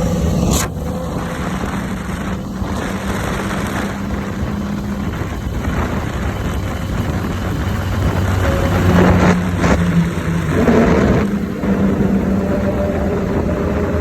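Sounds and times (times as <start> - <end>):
motorcycle engine running: 0.0 - 14.0
wind and road rush: 0.0 - 14.0.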